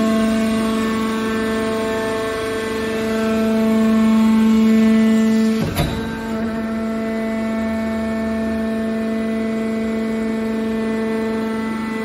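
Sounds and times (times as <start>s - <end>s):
hydraulic motor and pump humming: 0.0s - 12.0s.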